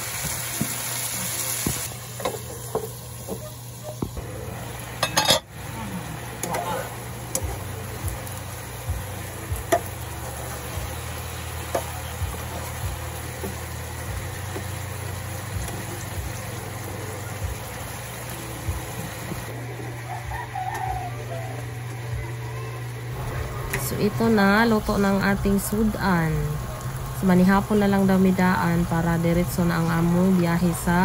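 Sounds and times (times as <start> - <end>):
food simmering in frying pan: 0.0 - 31.0.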